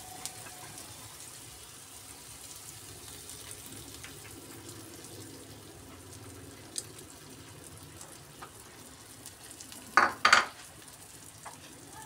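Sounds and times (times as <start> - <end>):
food frying on a pan: 0.0 - 12.0.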